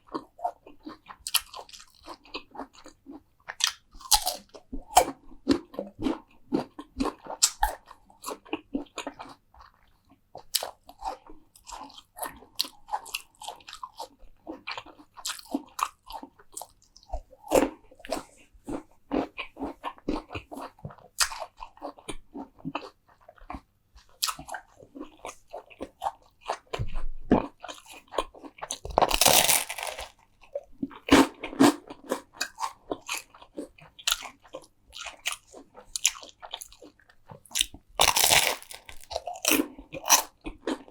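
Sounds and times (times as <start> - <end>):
crunchy food chewing: 0.0 - 40.9.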